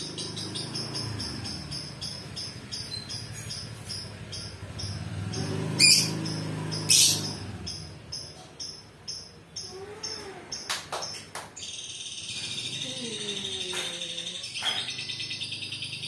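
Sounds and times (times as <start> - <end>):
lovebird chattering: 0.0 - 16.0.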